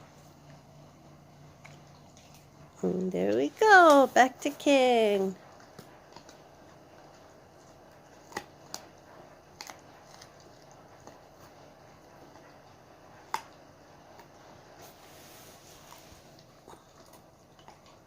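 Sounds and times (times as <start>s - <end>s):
dog chewing: 0.0s - 4.6s, 5.3s - 18.0s.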